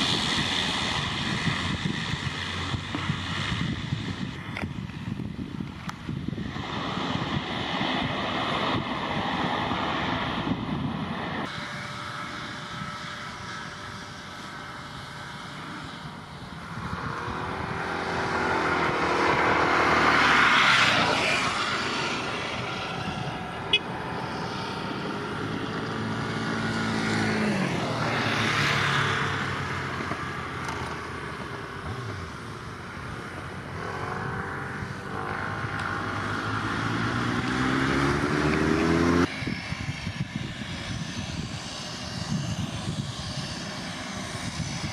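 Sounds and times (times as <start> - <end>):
turboprop plane engine and propeller: 0.0 - 44.9.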